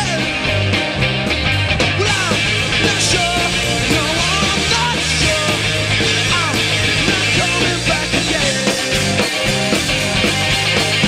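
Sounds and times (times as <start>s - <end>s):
drum kit: 0.0s - 11.0s
electric guitars: 0.0s - 11.0s
rock band playing live: 0.0s - 11.0s.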